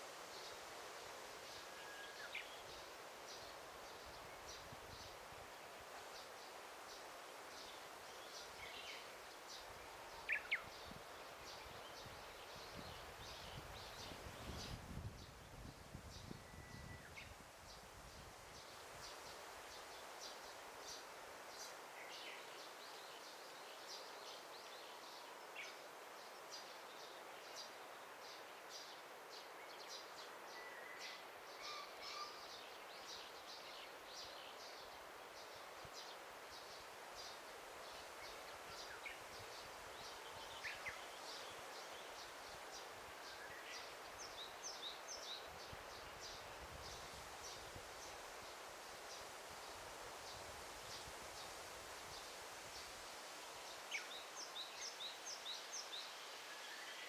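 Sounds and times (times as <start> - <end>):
steady soft hiss: 0.0 - 57.0
small birds chirping: 1.5 - 49.3, 53.6 - 57.0.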